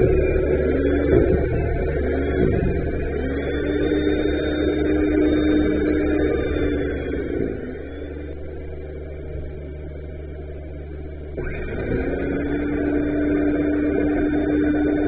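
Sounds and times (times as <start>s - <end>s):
diesel tractor engine running: 0.0s - 15.0s
steady high-pitched tone: 0.0s - 15.0s.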